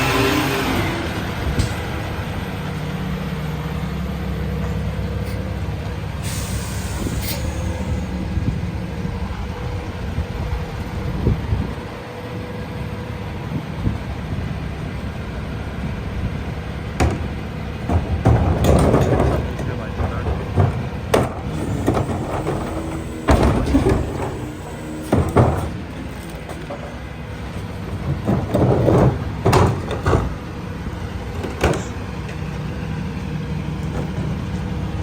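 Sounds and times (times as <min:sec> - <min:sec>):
garbage truck engine droning: 0:00.0 - 0:35.0.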